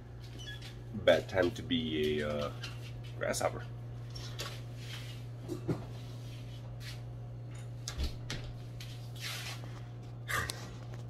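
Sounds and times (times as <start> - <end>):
steady low room hum: 0.0 - 11.0.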